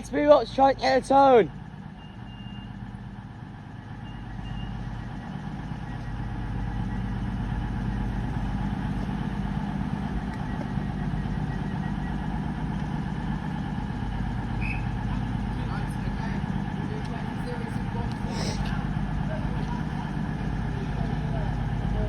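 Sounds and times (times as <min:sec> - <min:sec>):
train diesel engines idling: 0:00.0 - 0:22.0.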